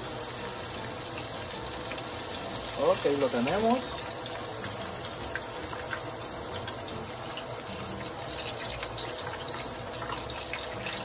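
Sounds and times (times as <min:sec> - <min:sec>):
oil sizzling with pops: 0:00.0 - 0:11.0.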